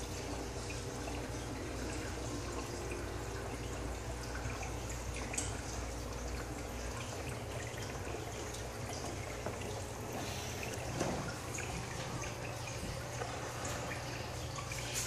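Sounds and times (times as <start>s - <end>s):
low steady hum: 0.0s - 15.0s
water trickling with drips: 0.0s - 15.0s.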